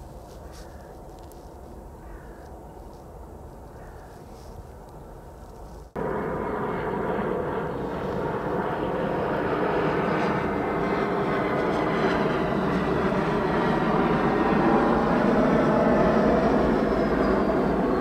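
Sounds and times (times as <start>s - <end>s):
jet airliner engines: 0.0s - 18.0s.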